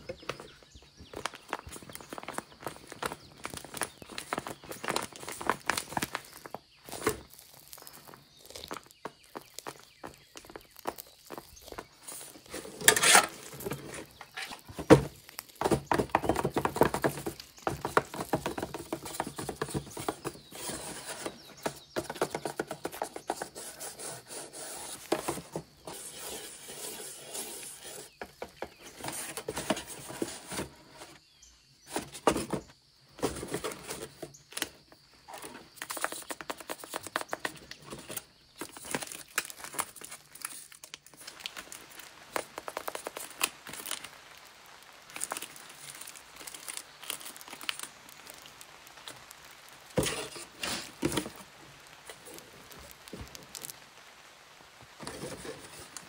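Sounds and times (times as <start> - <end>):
paper crinkling and rustling: 0.0 - 31.2, 31.8 - 54.0, 54.7 - 56.0.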